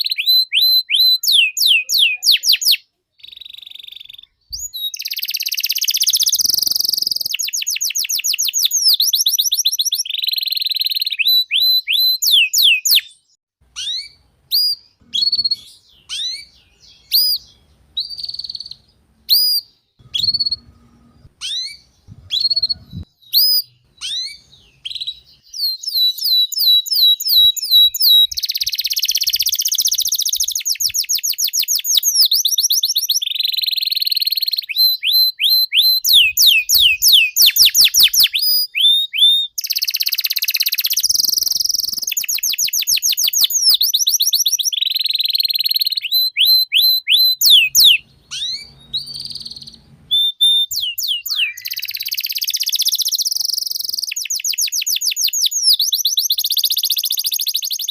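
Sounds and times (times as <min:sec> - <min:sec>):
canary singing: 0:00.0 - 0:57.9.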